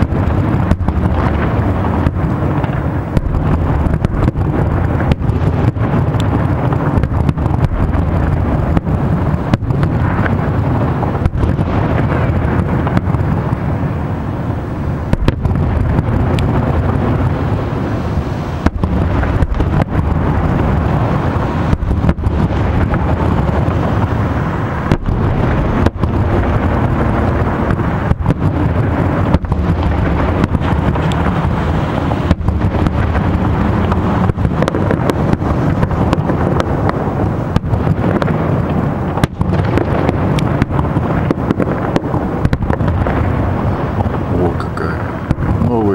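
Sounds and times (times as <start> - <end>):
continuous low rumble: 0.0 - 45.9
fireworks booming and cracking: 0.0 - 45.9.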